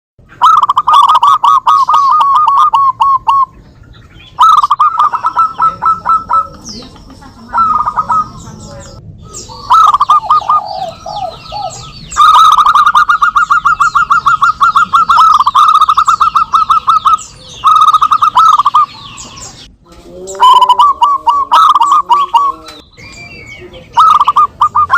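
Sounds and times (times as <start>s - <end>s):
doves cooing: 0.3s - 24.9s.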